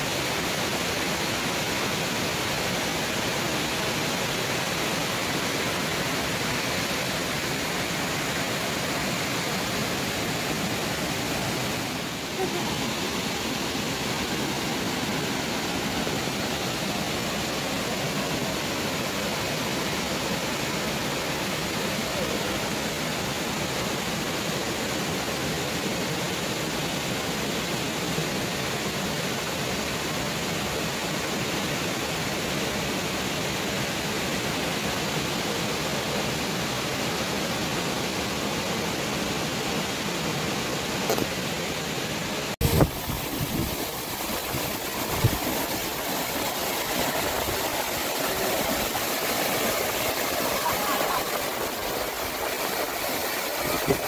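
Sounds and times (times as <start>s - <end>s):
waterfall roaring over boulders: 0.0s - 54.0s.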